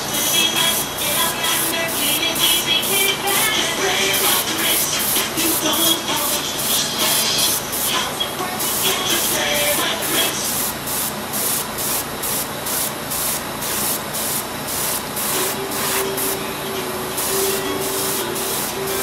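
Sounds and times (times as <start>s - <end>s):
airbrush hiss bursts: 0.0s - 19.0s.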